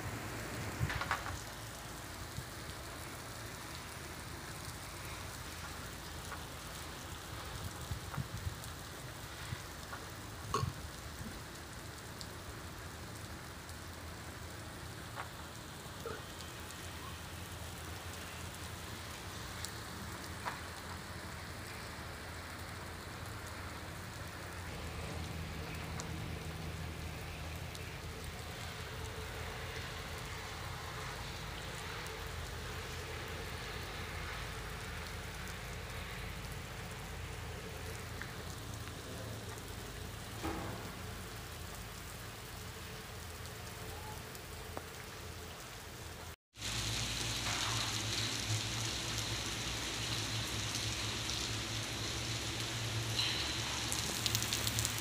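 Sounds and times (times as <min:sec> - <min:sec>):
rain on wet road: 0:00.0 - 0:55.0.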